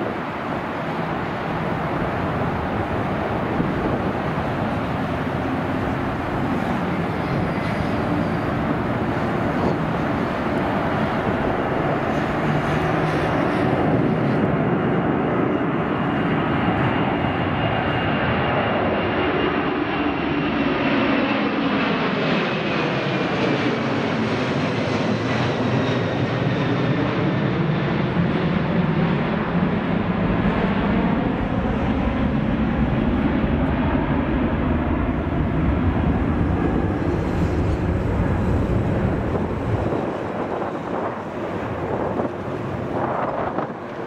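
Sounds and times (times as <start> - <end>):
jet engines roaring: 0.0 - 44.0.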